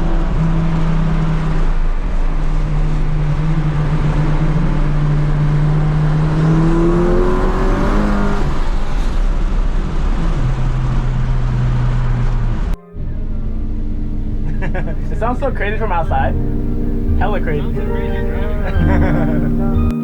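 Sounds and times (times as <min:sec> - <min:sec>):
road noise: 0:00.0 - 0:19.9
car engine droning: 0:00.0 - 0:20.0.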